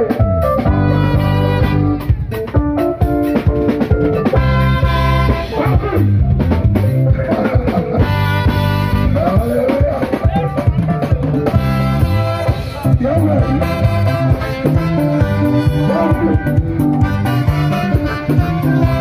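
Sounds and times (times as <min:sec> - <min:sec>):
bass: 0:00.0 - 0:19.0
drum kit: 0:00.0 - 0:19.0
horns and saxophone: 0:00.0 - 0:19.0.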